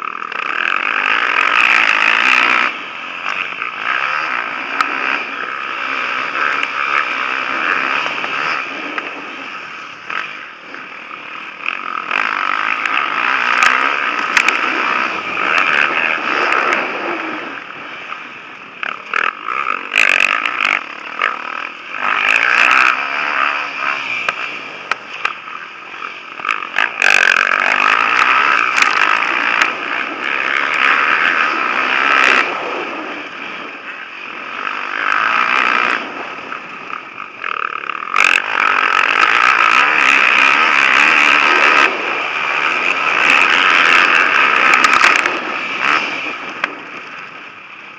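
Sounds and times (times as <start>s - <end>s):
sharp clicks and clatter: 0.0s - 18.2s, 18.8s - 32.7s, 34.6s - 47.5s
motocross bikes revving past: 0.0s - 47.9s.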